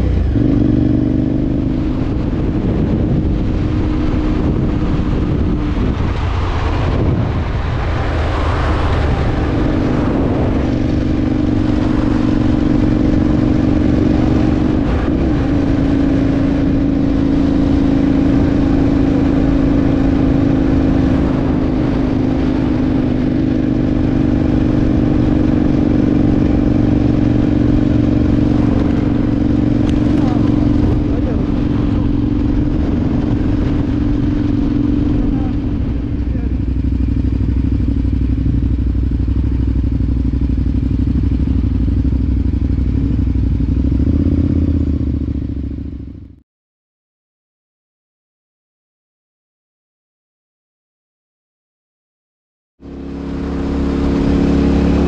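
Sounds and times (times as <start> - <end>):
motorcycle engine running: 0.0 - 46.4, 52.8 - 55.0
road rumble: 0.0 - 46.4, 52.8 - 55.0
wind: 0.0 - 46.4, 52.8 - 55.0.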